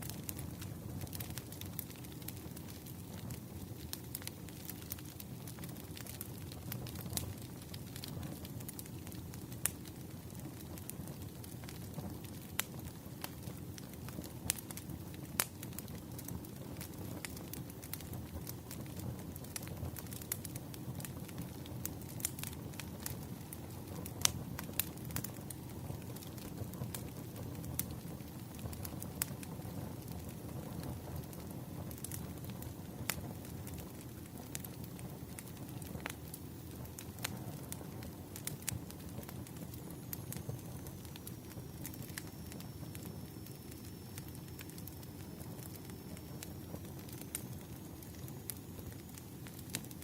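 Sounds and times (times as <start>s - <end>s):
campfire flame rushing: 0.0s - 50.0s
fire crackling and popping: 0.0s - 50.0s.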